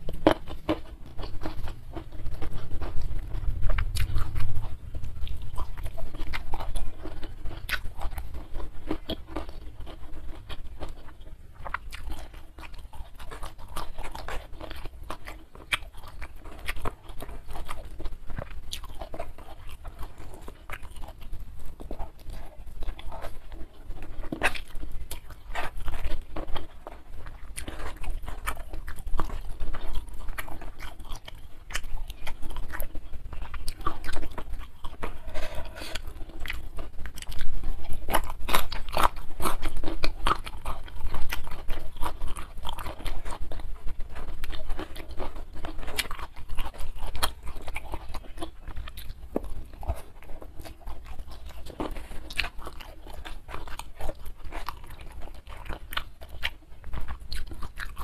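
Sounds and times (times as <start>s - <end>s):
chewing and crunching rice: 0.0s - 58.0s
low steady hum: 0.0s - 58.0s.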